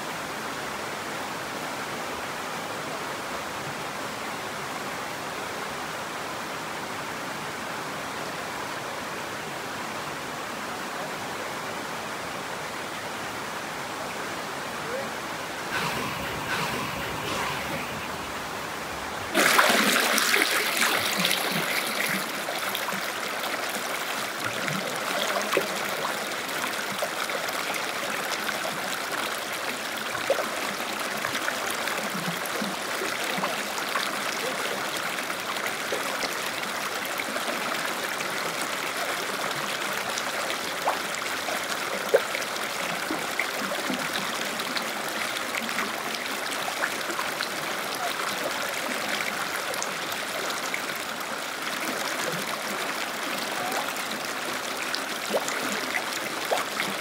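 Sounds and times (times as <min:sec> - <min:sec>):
stream water rushing over rock: 0:00.0 - 0:57.0.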